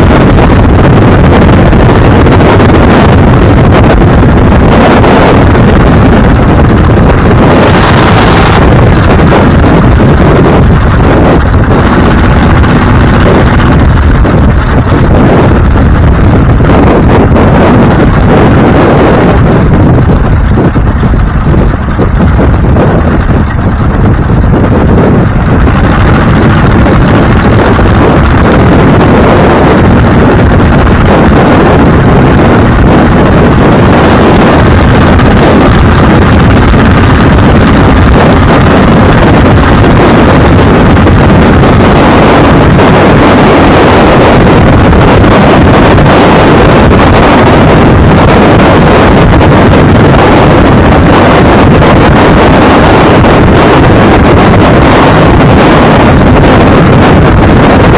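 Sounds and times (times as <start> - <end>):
road and engine rumble: 0.0 - 57.9
wind buffeting microphone: 0.0 - 57.9.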